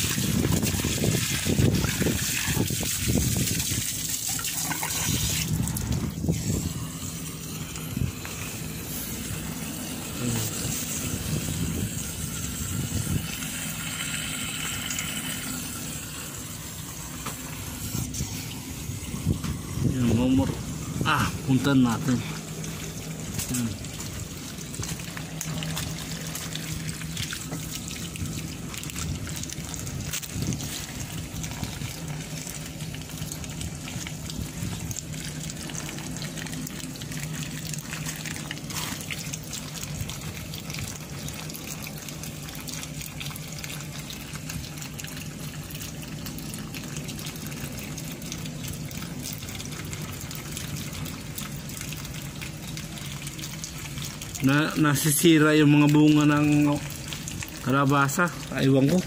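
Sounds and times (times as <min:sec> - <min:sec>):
low steady hum: 0:00.0 - 0:59.0
water trickling: 0:00.0 - 0:59.0.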